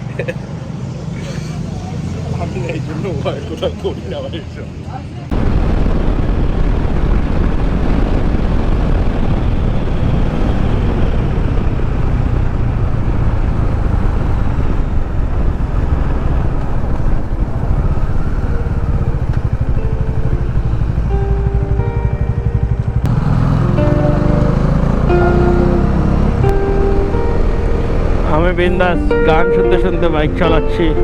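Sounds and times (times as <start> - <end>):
wind and road noise: 0.0 - 31.0
motorcycle engine rumble: 1.1 - 4.6, 5.3 - 31.0.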